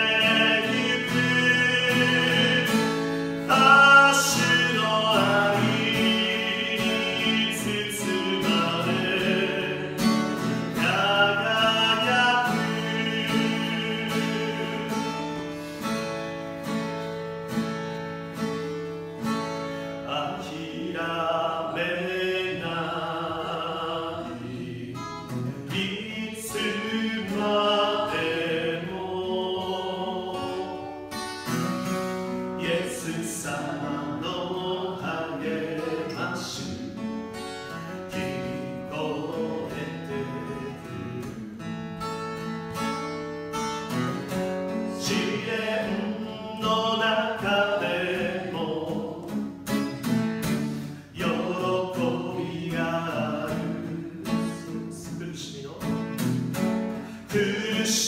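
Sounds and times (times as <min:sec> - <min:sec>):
man singing worship song: 0:00.0 - 0:15.5, 0:20.0 - 0:31.2, 0:32.2 - 0:41.7, 0:44.7 - 0:49.7, 0:50.8 - 0:56.2, 0:57.0 - 0:58.0
acoustic guitar strumming: 0:00.0 - 0:58.0.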